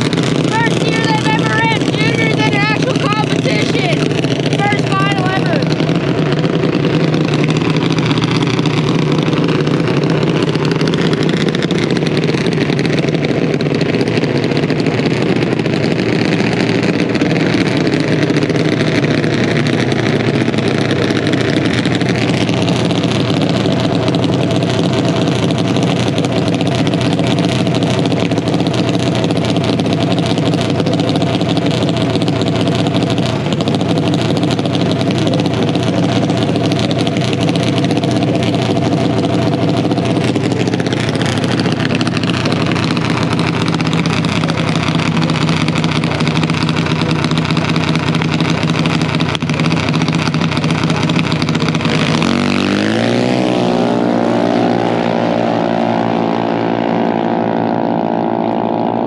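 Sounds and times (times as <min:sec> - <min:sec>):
single-cylinder engine idling: 0:00.0 - 0:58.2.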